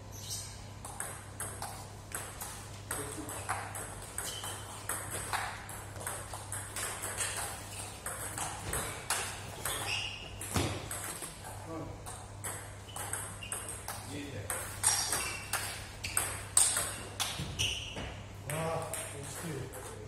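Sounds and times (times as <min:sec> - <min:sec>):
table tennis balls clicking: 0:00.8 - 0:17.8.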